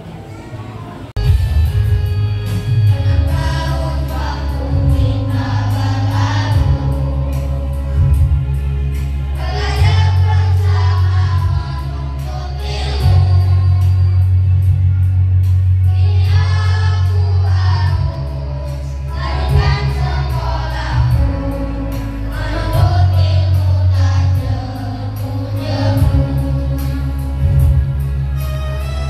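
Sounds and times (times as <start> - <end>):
backing track with bass line: 1.2 - 29.0
children singing into microphones: 2.9 - 29.0.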